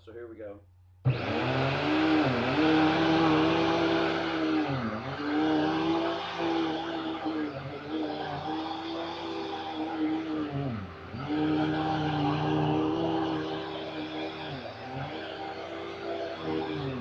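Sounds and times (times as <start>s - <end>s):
vacuum cleaner motor whine: 1.1s - 17.0s.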